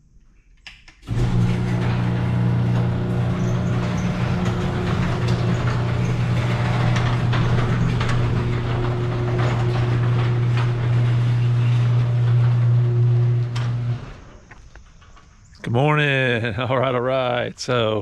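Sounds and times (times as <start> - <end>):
door rollers clicking and rattling: 1.0 - 15.8
garage door motor humming: 1.0 - 15.9.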